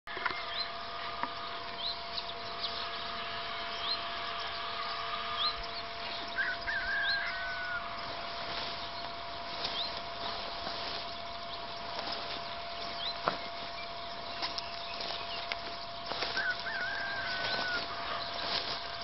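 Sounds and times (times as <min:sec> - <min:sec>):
bird high rising chirp: 0:00.1 - 0:19.0
bird warbling call: 0:00.1 - 0:19.0
faint steady hum: 0:00.1 - 0:19.0.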